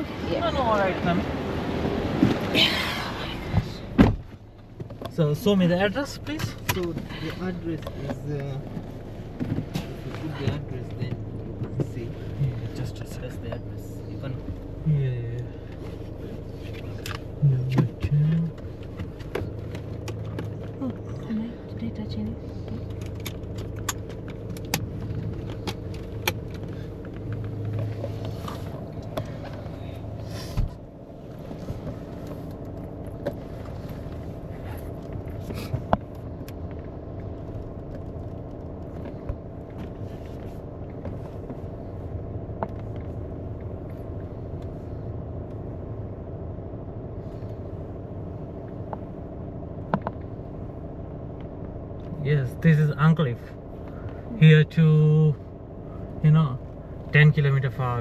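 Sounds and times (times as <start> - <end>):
car engine and road hum: 0.0 - 58.0.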